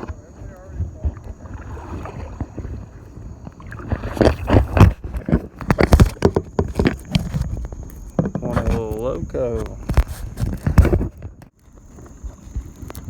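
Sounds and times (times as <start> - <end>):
water splashing around kayak: 0.0 - 13.0.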